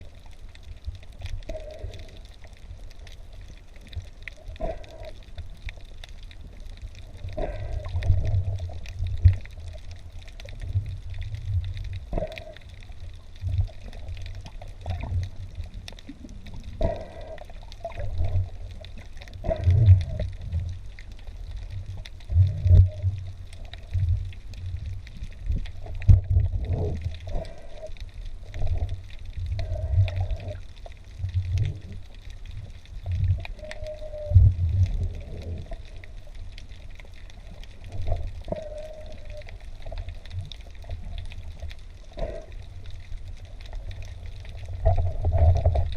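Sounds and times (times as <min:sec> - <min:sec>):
underwater rumble of moving water: 0:00.0 - 0:45.9.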